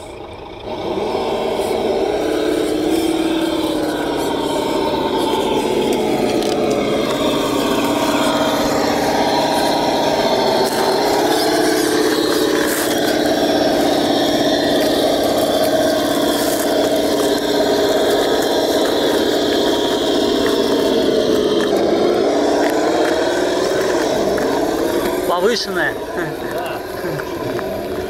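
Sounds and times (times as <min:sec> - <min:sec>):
electric motor whine: 0:00.0 - 0:28.0.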